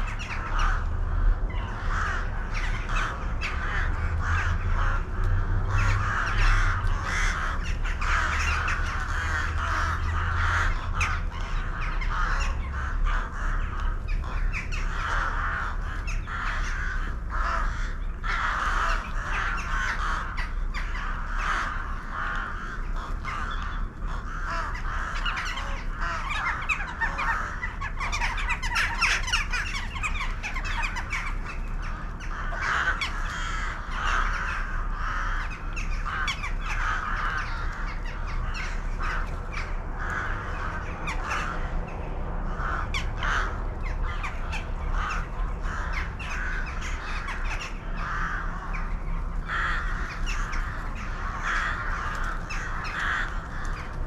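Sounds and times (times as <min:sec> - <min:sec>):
flock of birds calling: 0:00.0 - 0:54.0.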